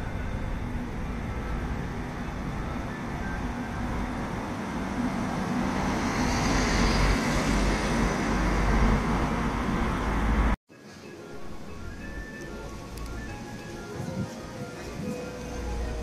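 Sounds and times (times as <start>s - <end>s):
low outdoor rumble: 0.0s - 10.6s, 11.3s - 16.0s.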